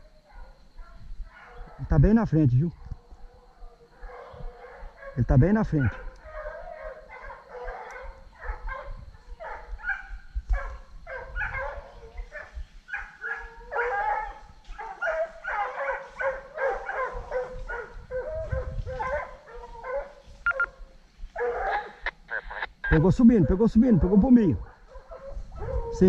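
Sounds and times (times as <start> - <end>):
hunting dogs baying and yelping: 0.0 - 26.0.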